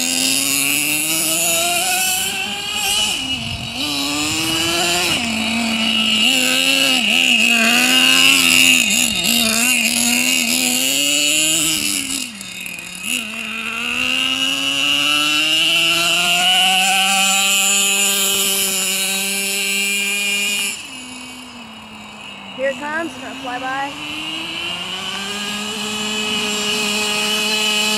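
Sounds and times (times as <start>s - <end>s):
rc truck engine revving: 0.0s - 27.9s.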